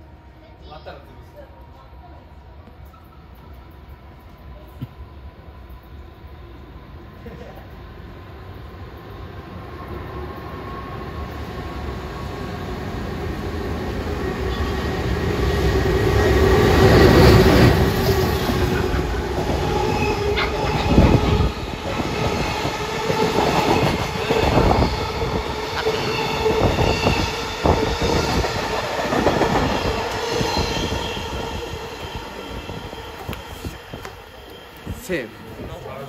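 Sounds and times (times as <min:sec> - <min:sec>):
electric locomotive rumbling past: 0:00.0 - 0:36.0.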